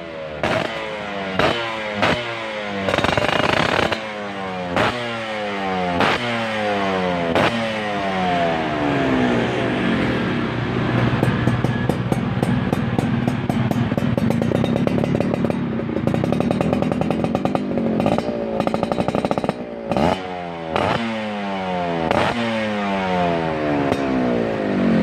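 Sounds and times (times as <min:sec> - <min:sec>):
two-stroke motorcycle engine revving: 0:00.0 - 0:25.0.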